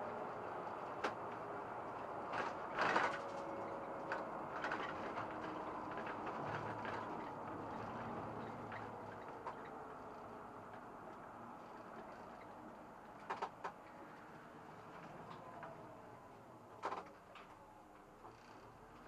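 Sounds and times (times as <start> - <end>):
bus engine and road hum: 0.0 - 19.0.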